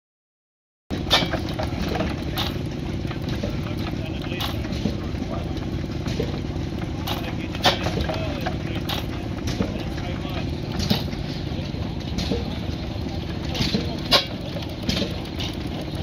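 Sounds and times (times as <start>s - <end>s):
engine exhaust bangs: 0.9s - 16.0s
stationary engine rumbling: 0.9s - 16.0s.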